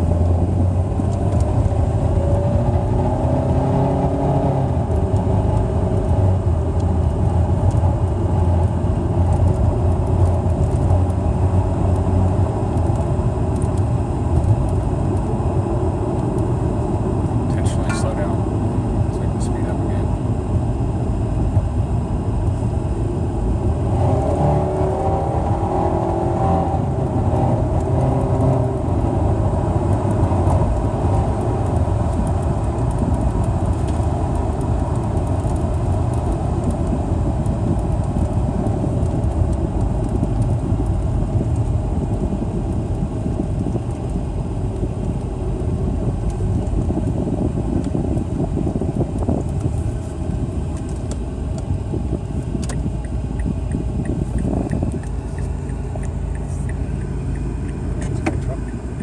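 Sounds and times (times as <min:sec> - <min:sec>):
car exhaust rumble: 0:00.0 - 0:59.0.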